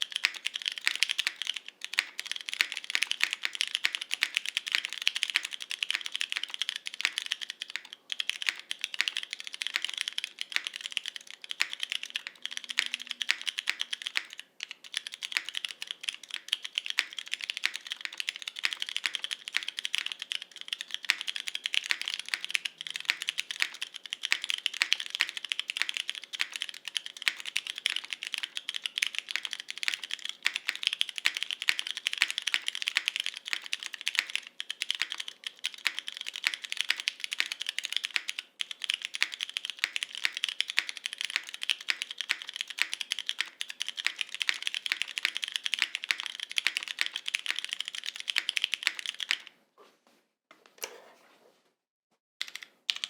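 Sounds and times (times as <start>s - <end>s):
fast mechanical keyboard typing: 0.0s - 49.5s, 52.4s - 53.0s.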